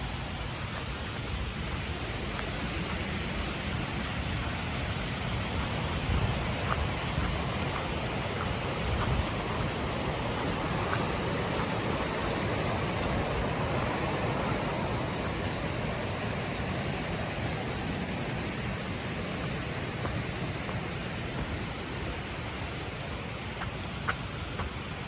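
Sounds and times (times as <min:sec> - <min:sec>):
river water rushing over rocks: 0:00.0 - 0:25.0.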